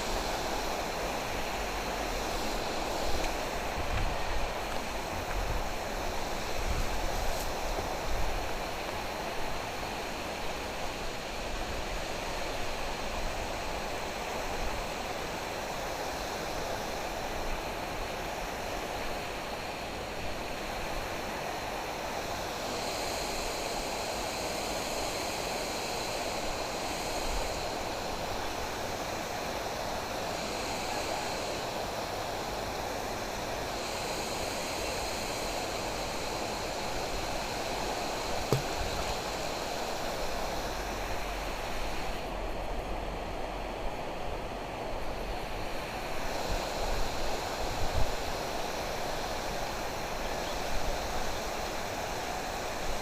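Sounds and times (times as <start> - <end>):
faint high hiss: 0.0 - 53.0
water rushing in a canal: 0.0 - 53.0.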